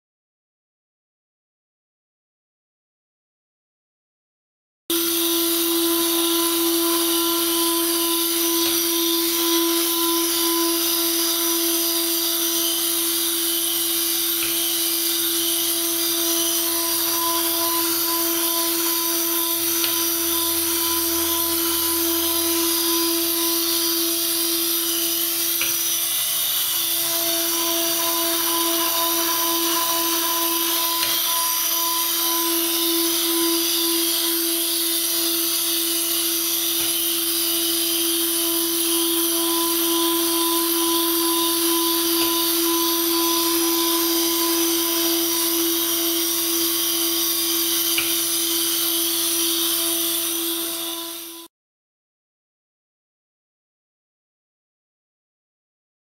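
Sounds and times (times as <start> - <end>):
grinder whine: 4.9 - 51.5.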